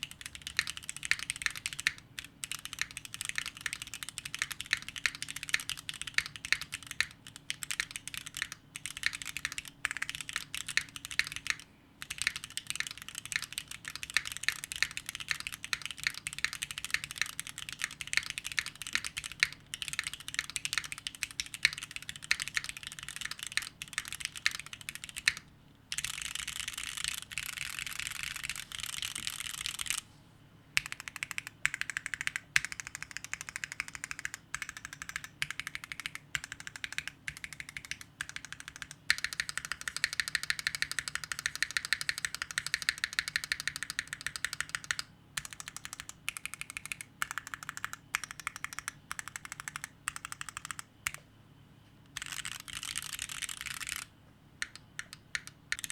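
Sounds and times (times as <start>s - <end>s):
mechanical keyboard typing: 0.0s - 30.0s, 30.8s - 51.2s, 52.1s - 55.9s.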